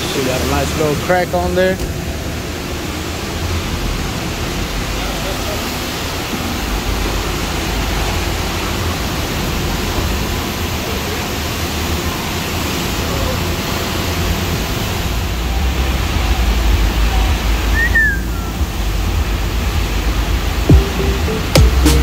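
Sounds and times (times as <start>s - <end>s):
car engine rumble: 0.0s - 22.0s
car wash equipment hissing: 0.0s - 22.0s.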